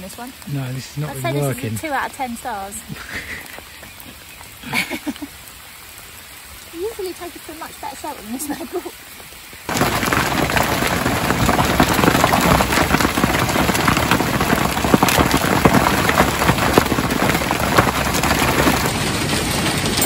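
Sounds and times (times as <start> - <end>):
heavy rain on steel deck: 0.0 - 20.0.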